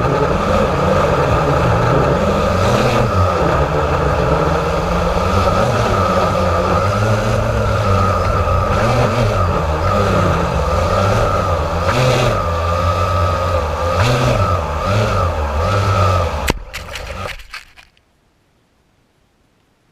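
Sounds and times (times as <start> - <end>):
quadcopter motors humming: 0.0 - 17.9.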